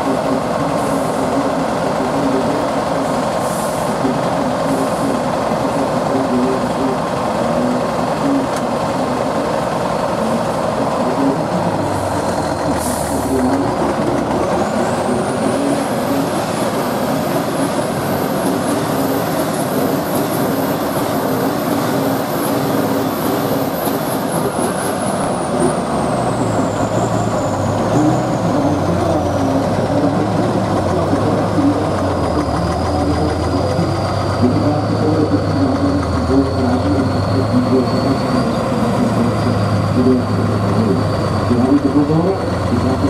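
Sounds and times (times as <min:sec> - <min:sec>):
heavy truck engine running: 0:00.0 - 0:43.0
high whine: 0:04.0 - 0:43.0.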